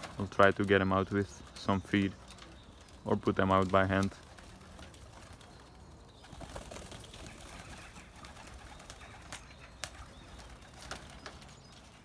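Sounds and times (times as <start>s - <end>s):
pigeons cooing: 0.0s - 12.0s
wing flutters: 0.0s - 12.0s.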